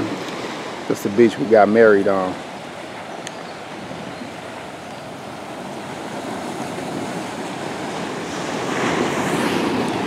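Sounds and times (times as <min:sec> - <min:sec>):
ocean surf washing ashore: 0:00.0 - 0:10.0
wind buffeting microphone: 0:00.0 - 0:10.0.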